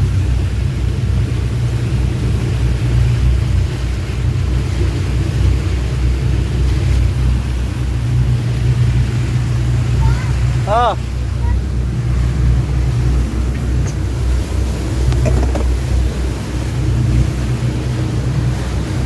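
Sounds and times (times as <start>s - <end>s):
motorboat engine rumbling: 0.0s - 19.0s.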